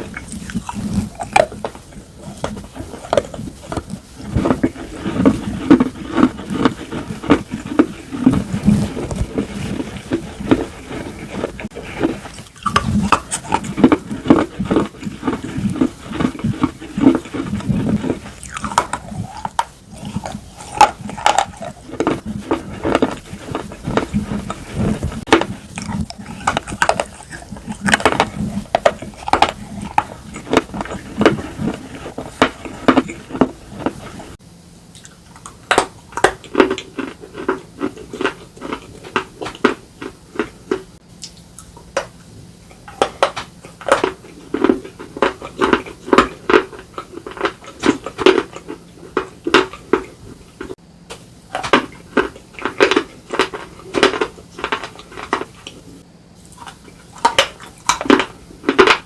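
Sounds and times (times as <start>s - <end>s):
slate crunching being chewed: 0.0s - 50.8s, 51.5s - 59.0s
faint steady hum: 0.0s - 59.0s.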